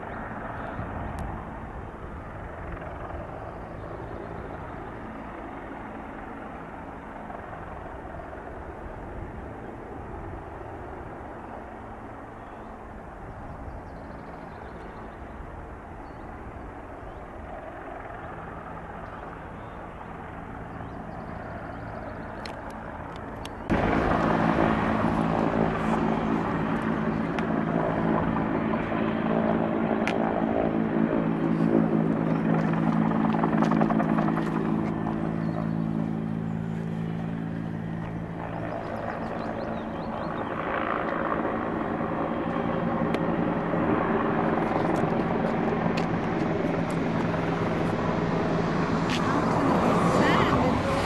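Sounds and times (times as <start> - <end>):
helicopter hovering: 0.0 - 51.0.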